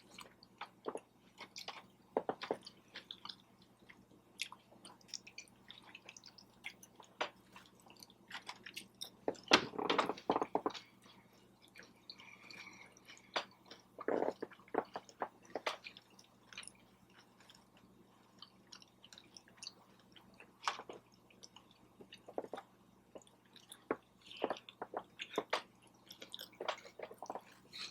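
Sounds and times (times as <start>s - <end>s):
person chewing food: 0.0s - 27.9s.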